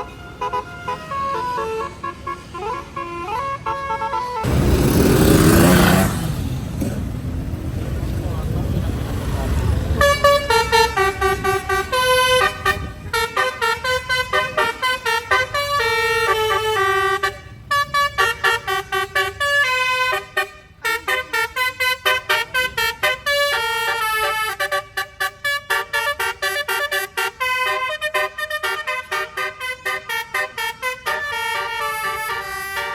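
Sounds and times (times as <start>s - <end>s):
musical bus air horn: 0.0s - 6.9s, 9.9s - 32.9s.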